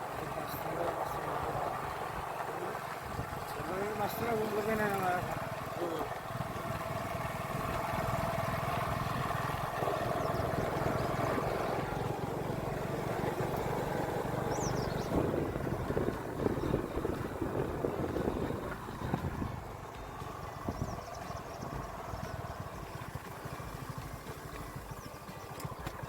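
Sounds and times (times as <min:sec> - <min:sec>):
engine rumbling with whine: 0:00.0 - 0:26.0.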